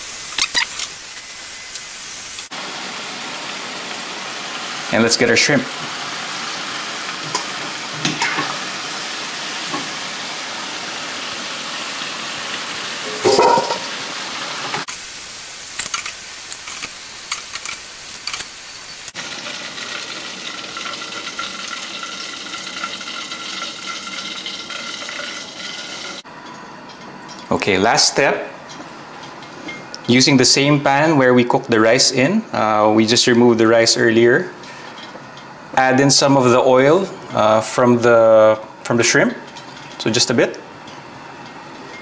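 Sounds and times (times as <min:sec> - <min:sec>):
hot oil sizzling: 0:00.0 - 0:27.4, 0:31.9 - 0:42.0.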